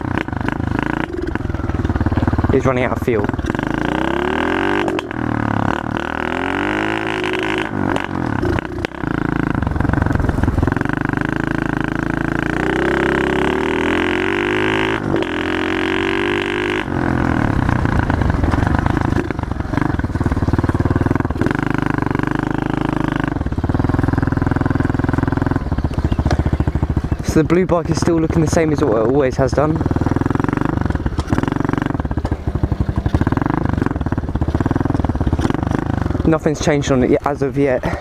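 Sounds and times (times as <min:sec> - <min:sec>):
motorbike engine accelerating: 0:00.0 - 0:38.0.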